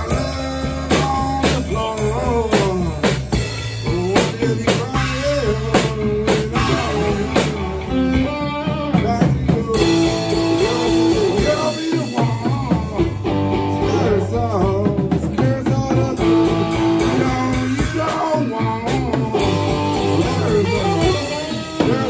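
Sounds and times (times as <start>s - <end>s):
drum kit beat: 0.0s - 22.0s
electric bass: 0.0s - 22.0s
electric guitar melody: 0.0s - 22.0s.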